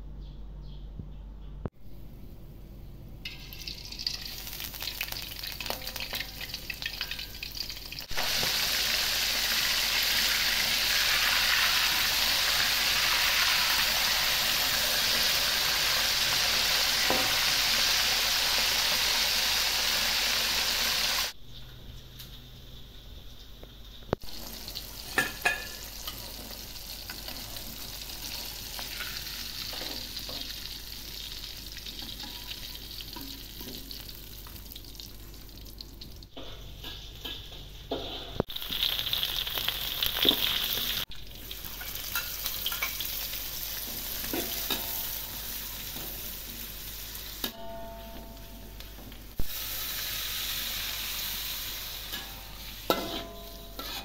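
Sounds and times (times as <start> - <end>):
hot oil sizzling in a wok: 3.3 - 21.4, 22.2 - 47.6, 48.8 - 54.0.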